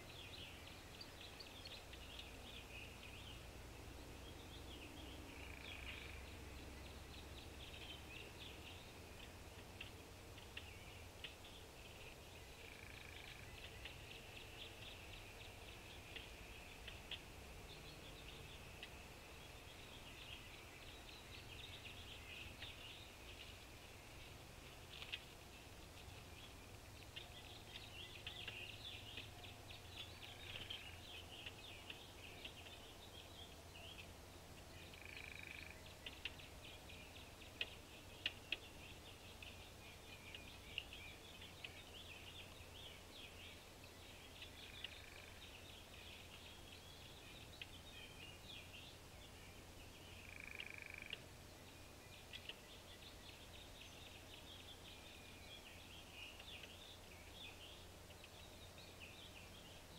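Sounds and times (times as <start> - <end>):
low steady hum: 0.0 - 59.9
bird chips and calls: 4.3 - 59.9.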